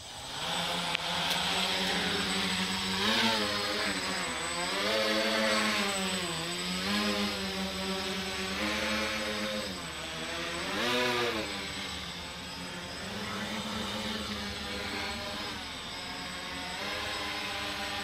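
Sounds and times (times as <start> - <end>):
quadcopter motors buzzing: 0.0 - 18.0.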